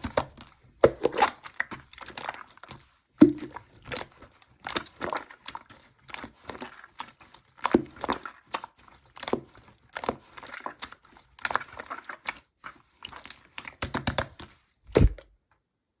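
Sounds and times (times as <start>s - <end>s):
slime squelching and crackling: 0.0s - 15.2s.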